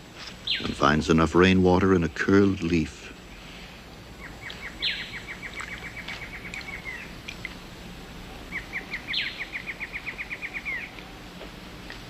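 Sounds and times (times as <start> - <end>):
rainforest ambience: 0.0 - 12.0.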